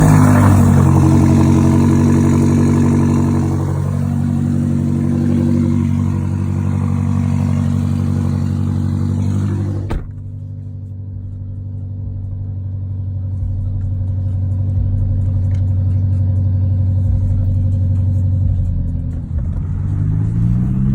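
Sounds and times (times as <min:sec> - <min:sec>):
car engine running steadily: 0:00.0 - 0:20.9
low muffled drone: 0:00.0 - 0:20.9.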